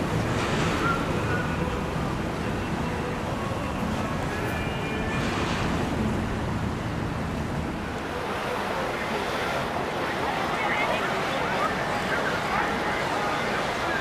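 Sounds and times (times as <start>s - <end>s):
low rumble of boat traffic: 0.0s - 14.0s
moving water: 0.0s - 14.0s.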